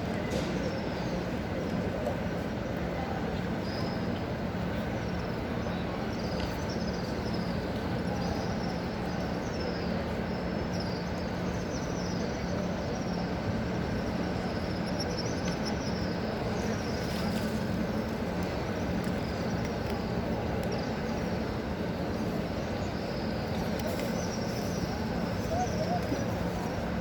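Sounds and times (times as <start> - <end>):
crowd ambience: 0.0 - 27.0.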